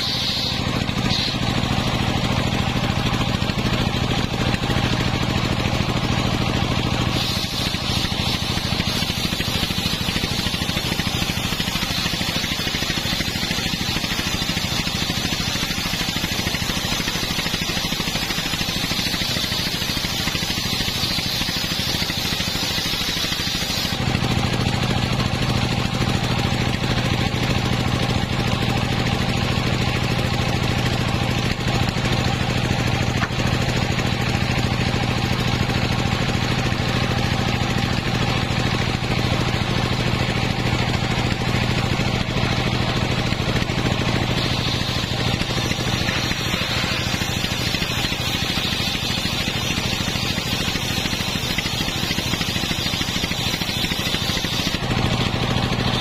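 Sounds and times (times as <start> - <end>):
saw blade cutting log hiss: 0.0 - 25.8, 26.5 - 56.0
engine-driven sawmill hum: 0.0 - 56.0.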